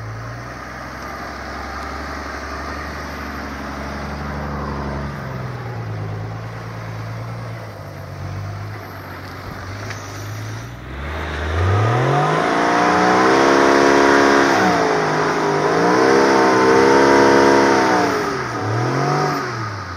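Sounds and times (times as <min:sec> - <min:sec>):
off-road vehicle engine revving: 0:00.0 - 0:19.9.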